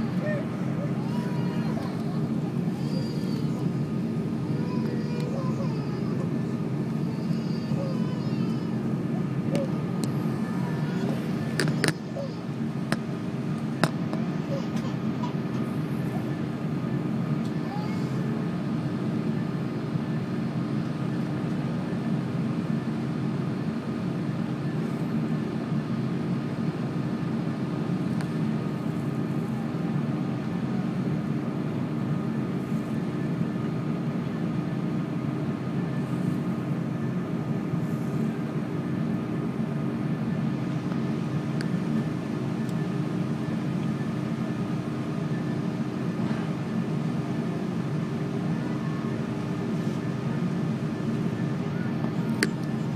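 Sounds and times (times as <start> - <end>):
faint whining tones: 0.0 - 27.4, 28.1 - 52.9
airliner cabin drone: 0.0 - 52.9.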